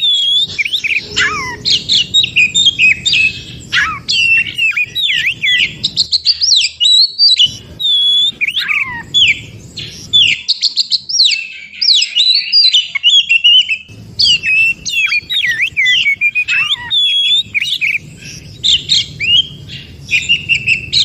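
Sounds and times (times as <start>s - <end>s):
bird singing whistles: 0.0s - 21.0s.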